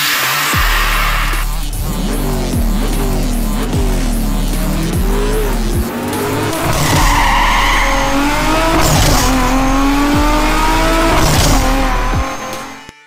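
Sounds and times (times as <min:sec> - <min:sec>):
car engine revving: 0:00.0 - 0:12.9
tyres squealing: 0:00.2 - 0:12.9
deep electronic bass drops: 0:00.6 - 0:12.8.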